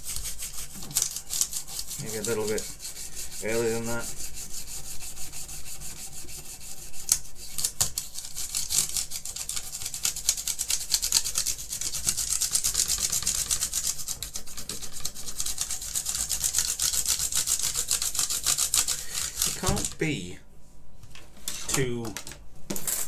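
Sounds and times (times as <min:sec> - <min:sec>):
scrubbing keyboard: 0:00.0 - 0:20.0.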